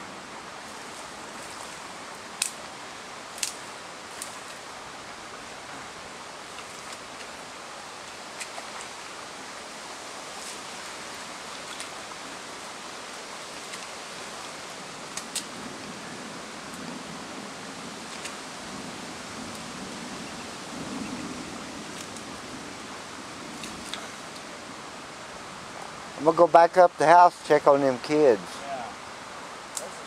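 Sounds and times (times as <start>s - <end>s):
creek rushing: 0.0s - 30.0s.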